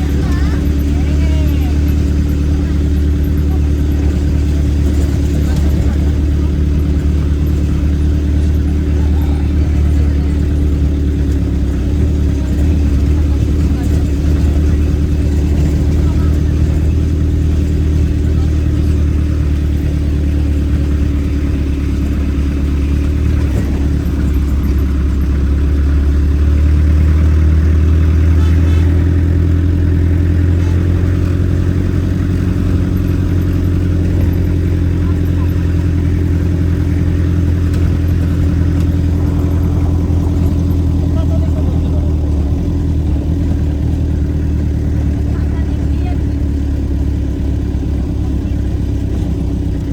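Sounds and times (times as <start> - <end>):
vehicle engine drone: 0.0 - 49.9.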